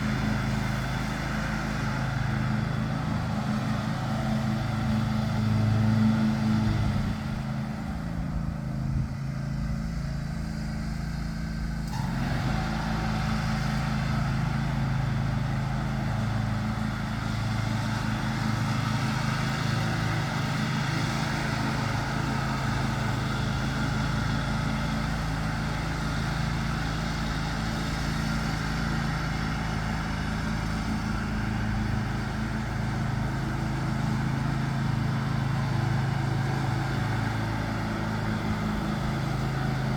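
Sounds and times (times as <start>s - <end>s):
riding mower engine drone: 0.0s - 39.9s.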